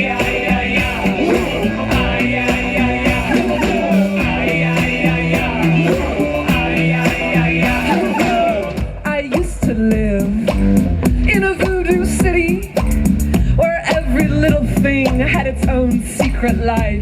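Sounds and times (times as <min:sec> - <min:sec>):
electronic punk band music: 0:00.0 - 0:17.0
person singing: 0:00.0 - 0:17.0
repeating bass line: 0:00.0 - 0:17.0
steady beat: 0:00.0 - 0:17.0.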